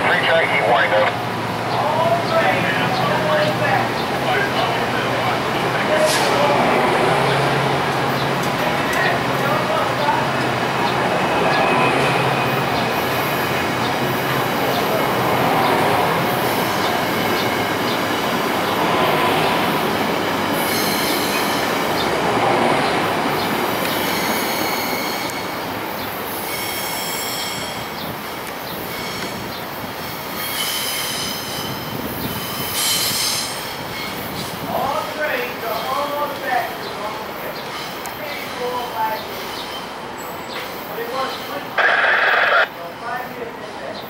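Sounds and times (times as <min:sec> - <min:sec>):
train rolling past: 0:00.0 - 0:44.0.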